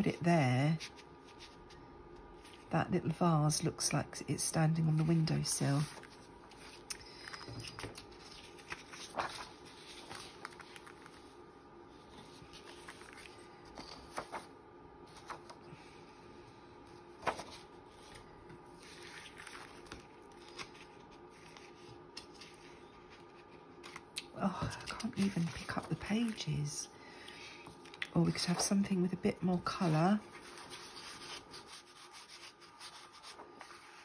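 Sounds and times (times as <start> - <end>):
paper rustling: 4.8 - 15.6, 17.1 - 34.0.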